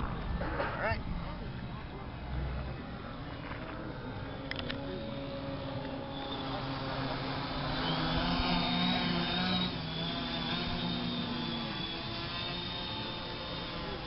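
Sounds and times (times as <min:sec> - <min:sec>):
drone motors humming and whining: 0:00.0 - 0:14.0.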